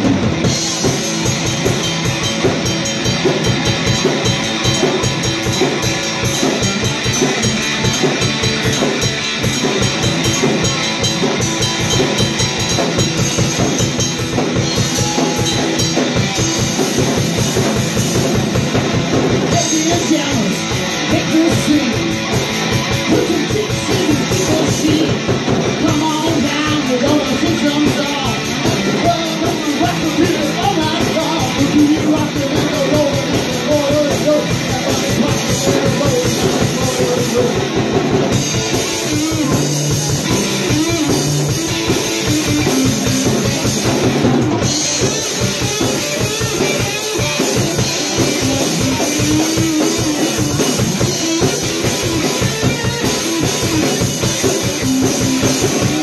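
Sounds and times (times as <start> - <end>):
drum kit steady beat: 0.0 - 56.0
electric guitar: 0.0 - 56.0.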